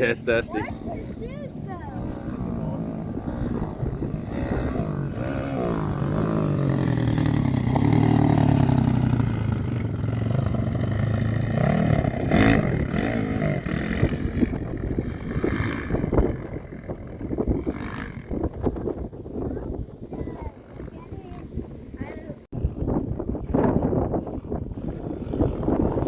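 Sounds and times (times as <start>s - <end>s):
off-road vehicle engine revving: 0.0s - 22.4s.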